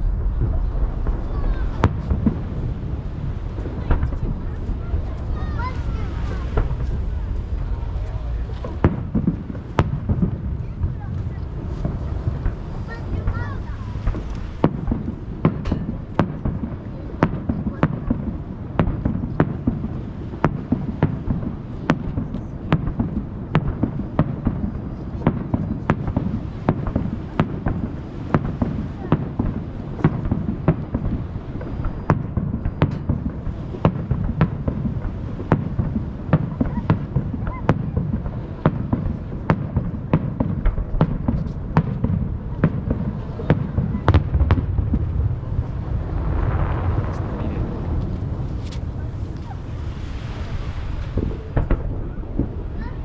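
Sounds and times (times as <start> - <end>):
fireworks bursting with sharp bangs: 0.0 - 53.0
low rumble of echoing booms: 0.0 - 53.0.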